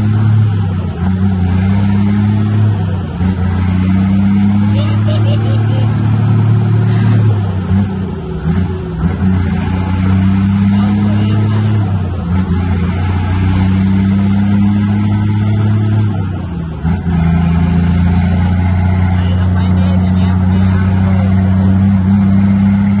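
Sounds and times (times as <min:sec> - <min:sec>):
truck diesel engine hum: 0:00.0 - 0:23.0.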